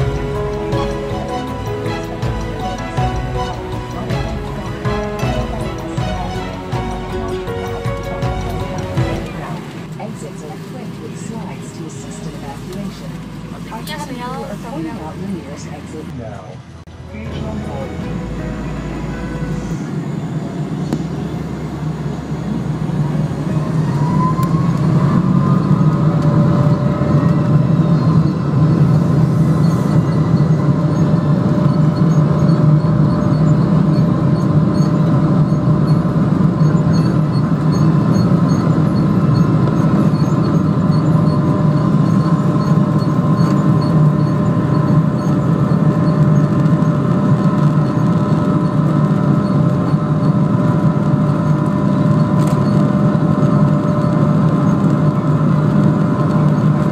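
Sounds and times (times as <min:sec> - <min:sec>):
jet engines spooling up: 0:00.0 - 0:56.9.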